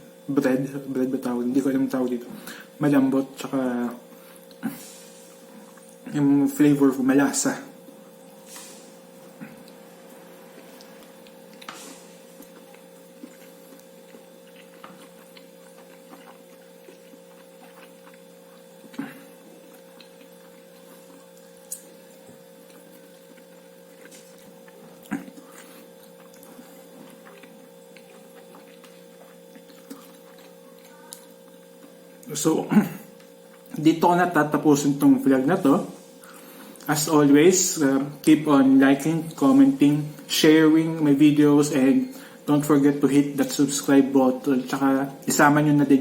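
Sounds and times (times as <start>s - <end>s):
low electrical hum: 0.0s - 46.0s.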